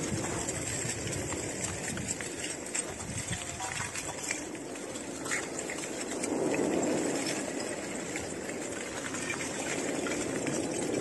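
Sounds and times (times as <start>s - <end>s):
lava chunks crackling and clattering: 0.0s - 11.0s.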